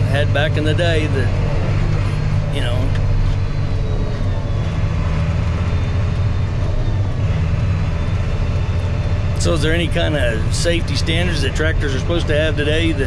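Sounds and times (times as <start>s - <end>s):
tractor diesel engine drone: 0.0s - 13.0s.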